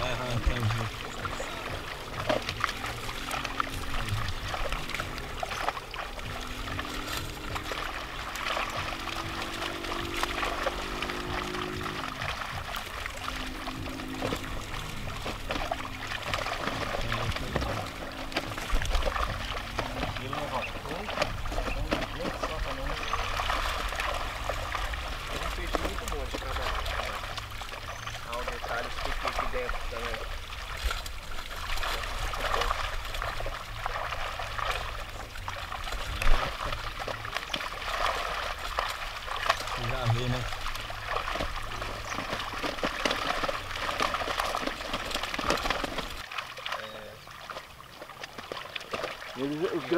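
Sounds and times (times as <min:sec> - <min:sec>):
quiet background music: 0:00.0 - 0:46.3
fish splashing in a net: 0:00.0 - 0:49.9
trickling water: 0:00.0 - 0:49.9.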